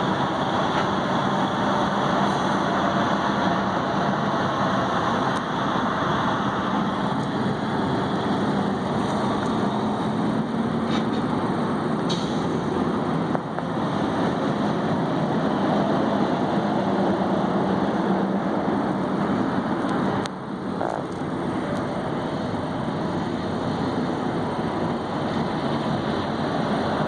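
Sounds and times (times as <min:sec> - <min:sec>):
truck engines idling: 0:00.0 - 0:27.0.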